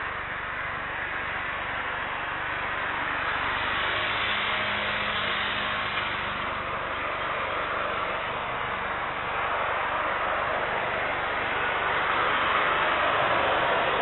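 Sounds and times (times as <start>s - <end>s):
jet engine hiss: 0.0s - 14.0s.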